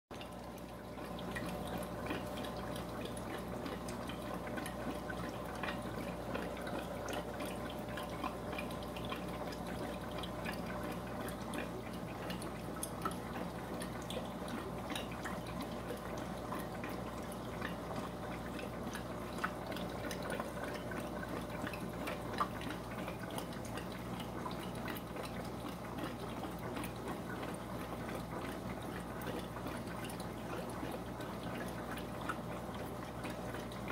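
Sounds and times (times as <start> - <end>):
aquarium water trickling: 0.1 - 33.9.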